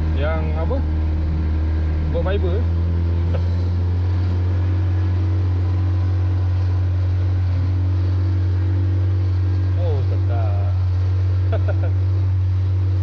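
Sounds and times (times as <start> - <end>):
outboard motor droning: 0.0 - 13.0
wind: 0.0 - 13.0.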